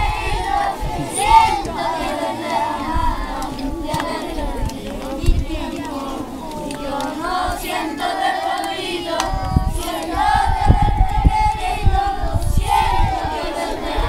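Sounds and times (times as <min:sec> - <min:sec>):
children singing together: 0:00.0 - 0:14.0
wind rumbling on microphone: 0:00.0 - 0:14.0.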